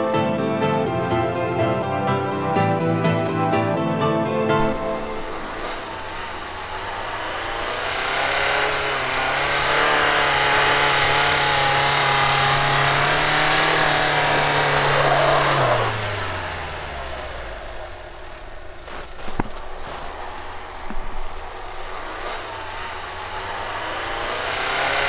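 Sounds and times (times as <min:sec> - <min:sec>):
car engine revving hard: 0:04.6 - 0:25.0.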